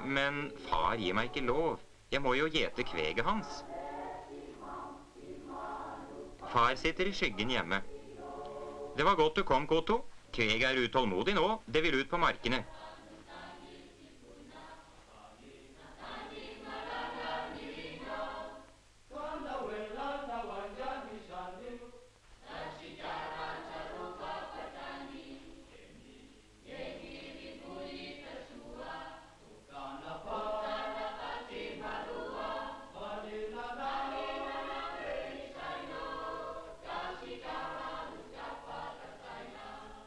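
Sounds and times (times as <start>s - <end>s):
choir singing: 0.0s - 9.9s, 12.2s - 40.0s.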